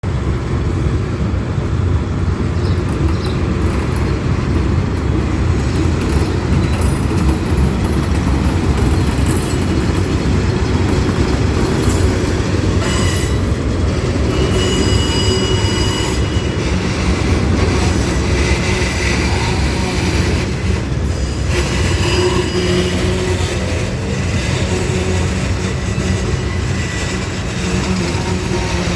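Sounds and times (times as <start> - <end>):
freight train rumbling on rails: 0.0 - 28.9
high wheel squeal: 2.6 - 28.9.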